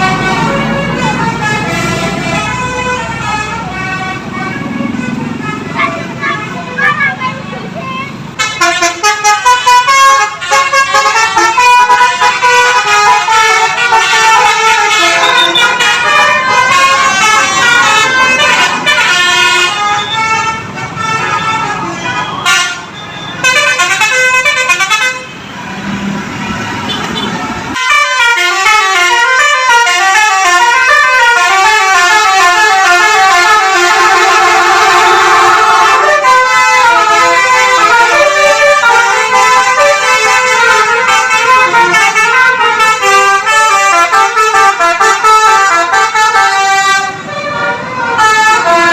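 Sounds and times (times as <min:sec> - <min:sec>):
multi-tone bus horn melody: 0:00.0 - 0:48.9.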